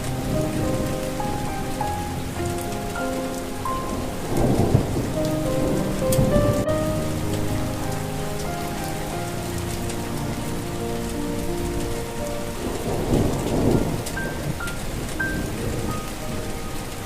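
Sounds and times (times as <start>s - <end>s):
slow melody with held notes: 0.0s - 17.0s
steady rain falling: 0.0s - 17.0s
thunder rumble: 0.0s - 17.0s.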